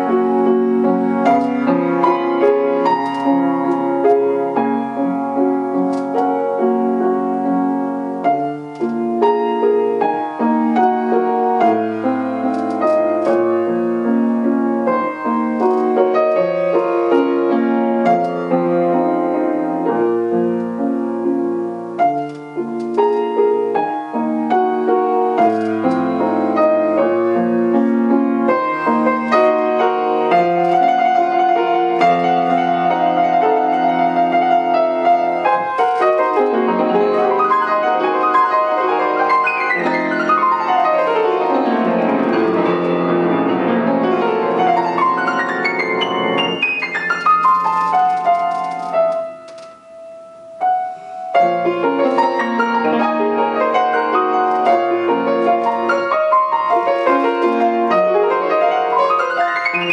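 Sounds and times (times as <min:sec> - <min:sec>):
solo piano classical piece: 0:00.0 - 0:59.9.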